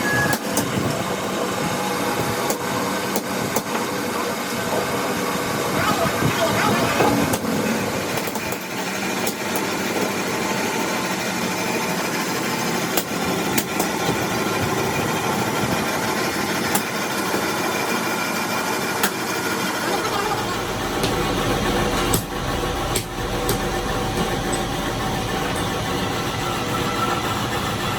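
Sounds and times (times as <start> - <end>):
machine running steadily: 0.0 - 27.9.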